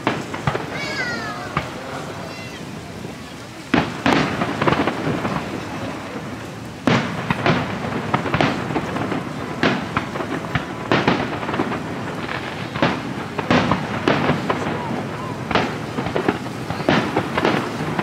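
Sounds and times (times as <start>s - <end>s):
firework shells bursting: 0.0s - 2.6s, 3.7s - 18.0s.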